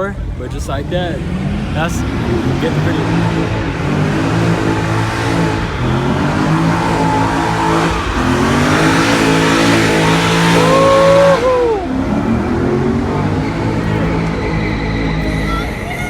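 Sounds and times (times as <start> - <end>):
car engine revving: 0.0 - 16.0
other engines running: 0.0 - 16.0.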